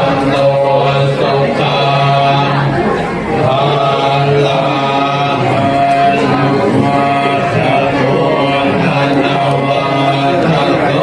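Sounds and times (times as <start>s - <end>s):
group chanting in unison: 0.0s - 11.0s.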